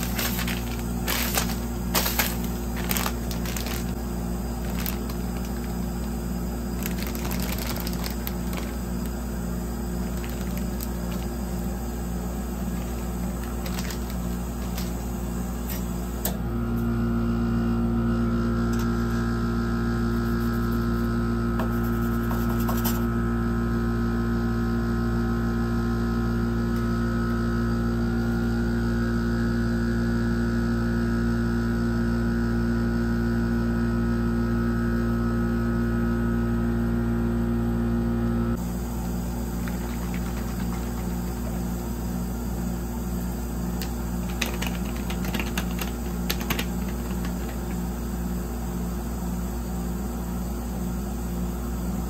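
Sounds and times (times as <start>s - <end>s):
refrigeration machine humming: 0.0s - 52.0s.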